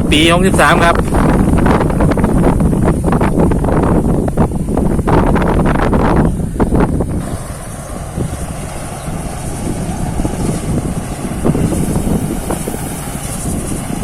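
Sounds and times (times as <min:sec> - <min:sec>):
combine harvester running: 0:00.0 - 0:14.0
wind noise on microphone: 0:00.0 - 0:14.0.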